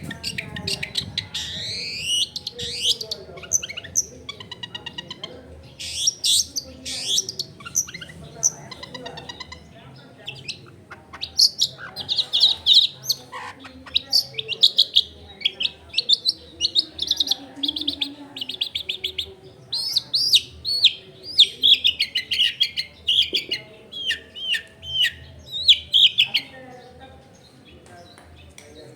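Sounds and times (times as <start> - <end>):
bird singing chirps and trills: 0.0 - 28.9.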